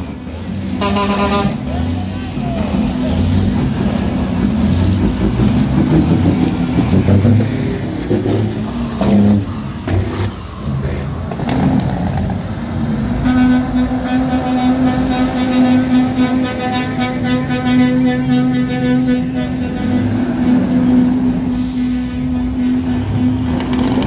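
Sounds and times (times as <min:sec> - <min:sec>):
diesel truck engines rumbling: 0:00.0 - 0:24.0.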